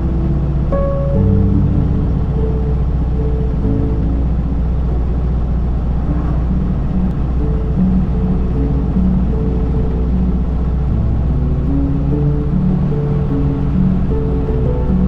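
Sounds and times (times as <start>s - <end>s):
car engine running: 0.0s - 15.0s
road rumble inside car: 0.0s - 15.0s
soft slow background music: 0.0s - 15.0s.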